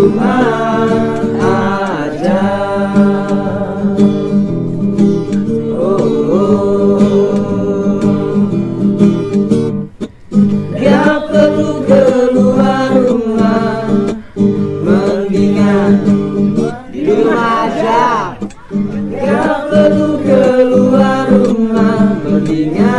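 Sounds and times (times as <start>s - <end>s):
group of voices singing: 0.0s - 8.9s, 10.5s - 22.9s
strummed acoustic guitar: 0.0s - 22.9s.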